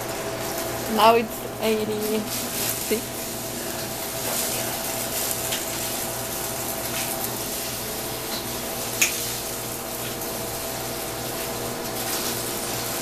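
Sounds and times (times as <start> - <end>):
exhaust hood fan running: 0.0 - 13.0
food frying in a wok: 0.0 - 13.0.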